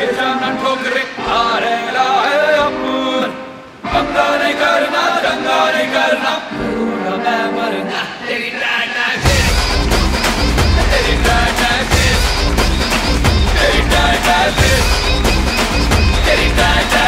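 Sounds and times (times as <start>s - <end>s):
group singing in chorus: 0.0s - 17.0s.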